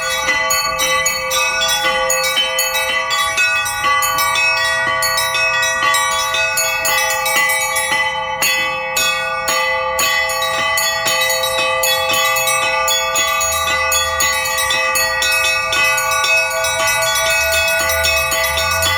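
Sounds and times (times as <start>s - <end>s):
church bells ringing rapidly: 0.0s - 18.9s.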